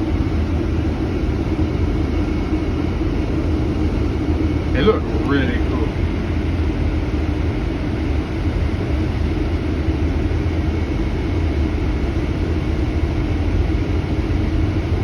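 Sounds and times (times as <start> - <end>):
low rumble of road vehicles: 0.0 - 15.0.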